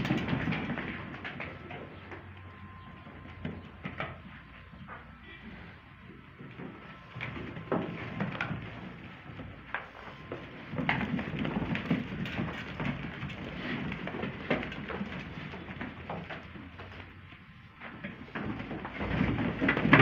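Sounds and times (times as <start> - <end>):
sheep hooves knocking and scuffing: 0.0 - 20.0.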